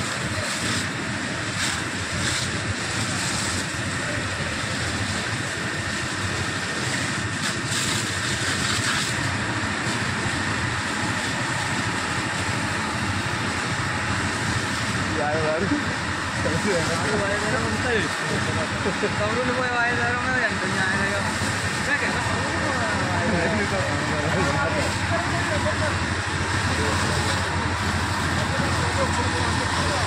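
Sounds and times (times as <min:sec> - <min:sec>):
fire hose jets spraying water: 0:00.0 - 0:30.0.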